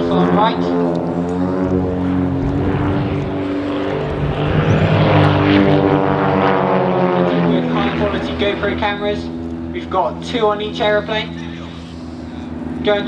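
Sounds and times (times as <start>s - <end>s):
propeller plane engines: 0.0s - 13.0s.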